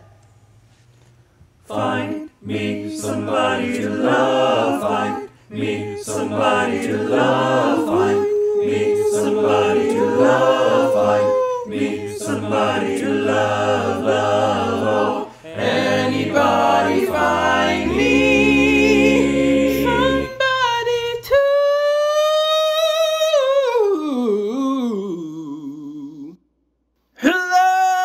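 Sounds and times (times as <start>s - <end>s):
male group singing a cappella: 1.7s - 26.4s.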